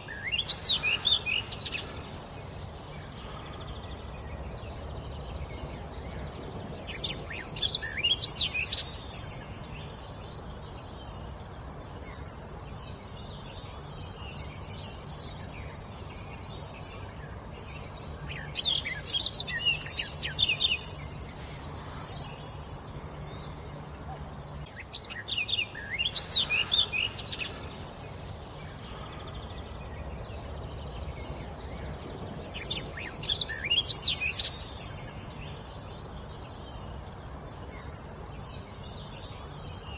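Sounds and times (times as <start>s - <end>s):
low background noise: 0.0s - 39.9s
songbird singing: 0.0s - 39.9s.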